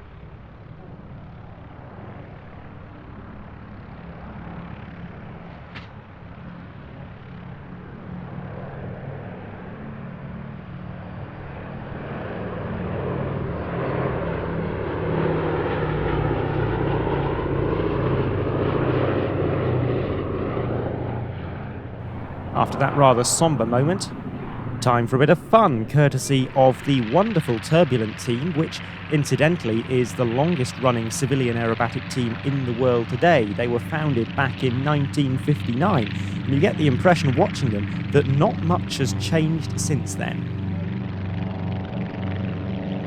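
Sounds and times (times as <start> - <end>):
propeller plane engines droning: 0.0 - 43.0.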